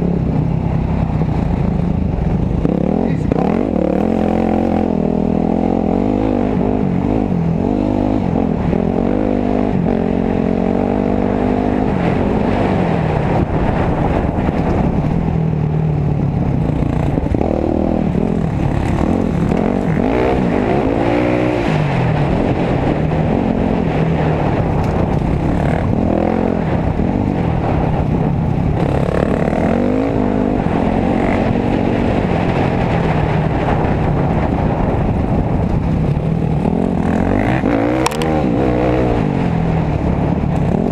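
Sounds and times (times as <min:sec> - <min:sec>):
dirt bike engines revving: 0:00.0 - 0:15.2, 0:16.2 - 0:40.9.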